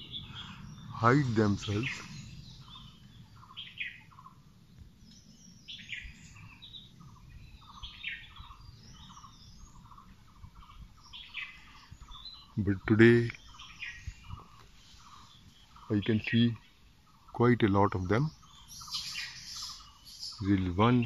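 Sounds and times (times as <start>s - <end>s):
lower repeated bird notes: 0.0s - 21.0s.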